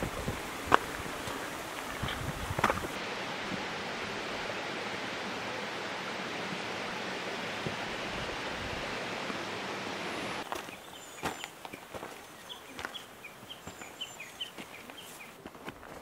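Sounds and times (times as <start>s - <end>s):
steady outdoor rushing noise: 0.0s - 15.5s.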